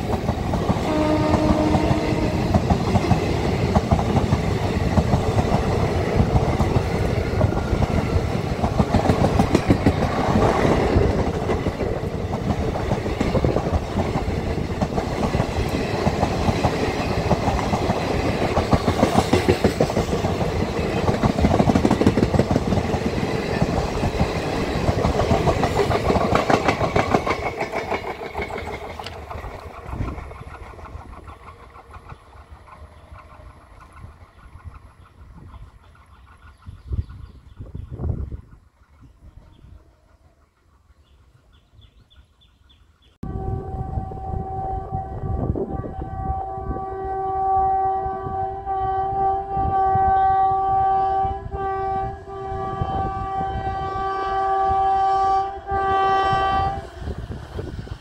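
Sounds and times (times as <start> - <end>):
passenger train rumbling past: 0.0 - 58.0.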